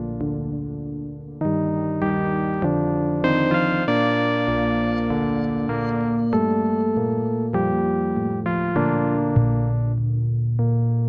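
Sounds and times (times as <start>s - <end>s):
soft electric piano chords: 0.0s - 10.0s.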